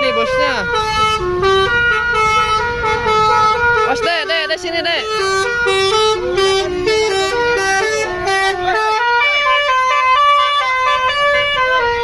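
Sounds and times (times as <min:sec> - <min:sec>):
bus horn playing melody: 0:00.0 - 0:12.0.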